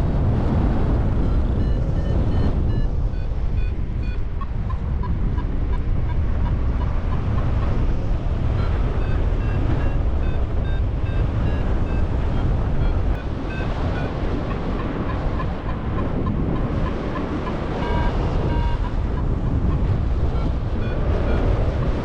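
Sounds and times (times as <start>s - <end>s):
strong wind on microphone: 0.0s - 22.0s
variometer beeping: 1.2s - 22.0s.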